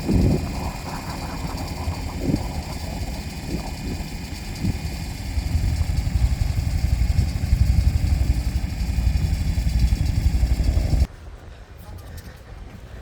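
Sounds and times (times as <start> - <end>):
vehicle engine rumbling: 0.0 - 11.1.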